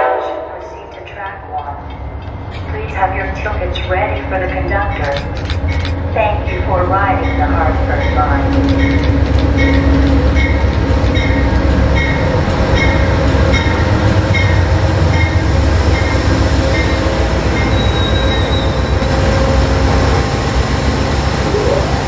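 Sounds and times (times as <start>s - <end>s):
diesel train engine rumble: 0.0s - 22.0s
train wheels rolling: 0.6s - 22.0s.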